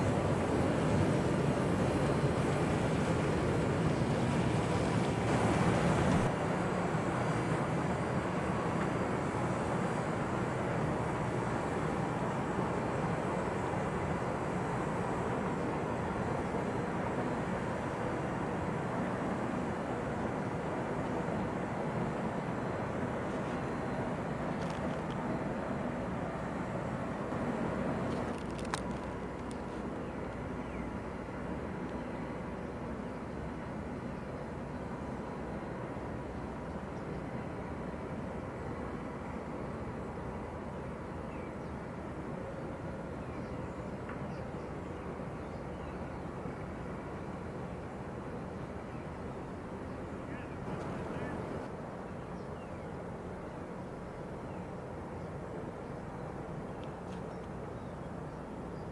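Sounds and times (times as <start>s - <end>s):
ship engine rumble: 0.0s - 58.9s.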